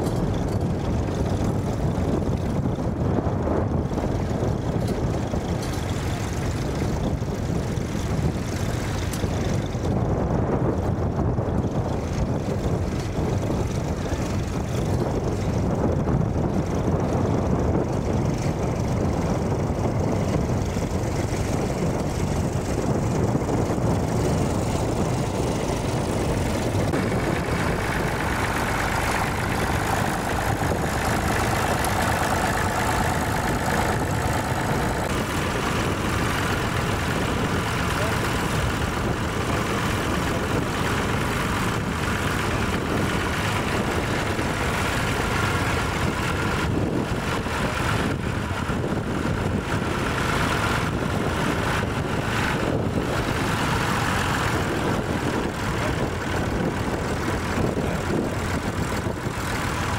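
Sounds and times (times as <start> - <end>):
tractor engine running: 0.0 - 59.9
wind buffeting microphone: 0.0 - 59.9.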